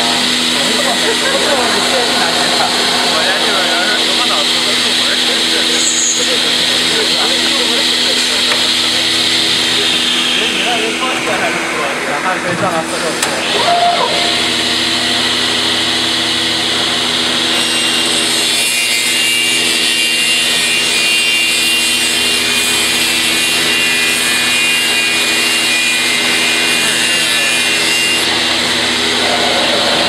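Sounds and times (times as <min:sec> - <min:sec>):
saw blade cutting wood: 0:00.0 - 0:11.7, 0:13.3 - 0:30.0
machine humming: 0:00.0 - 0:30.0.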